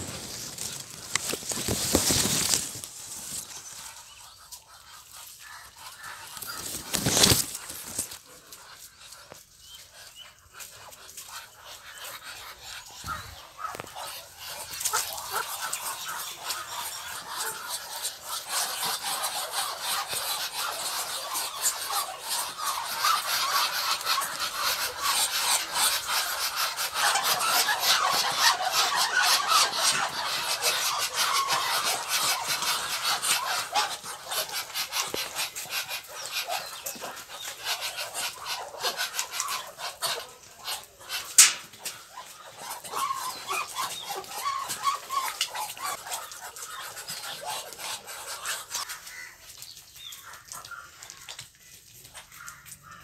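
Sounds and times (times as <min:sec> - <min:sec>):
ducks calling: 0:00.0 - 0:51.4.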